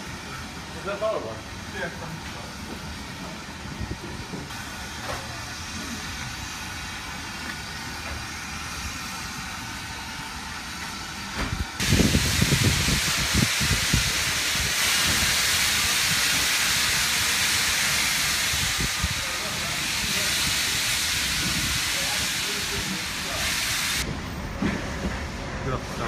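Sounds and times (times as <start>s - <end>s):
steam hissing: 0.0s - 24.1s.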